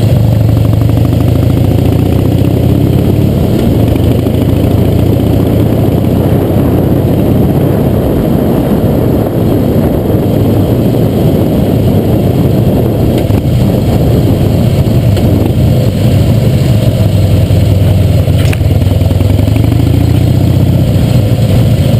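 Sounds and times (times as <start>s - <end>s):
motorcycle engine running loud: 0.0s - 21.9s.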